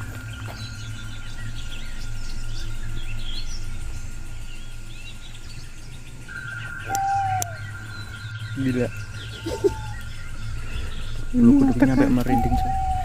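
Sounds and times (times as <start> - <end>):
low hum: 0.0 - 13.0
small birds chirping: 0.0 - 13.0
steady high-pitched tone: 0.0 - 13.0.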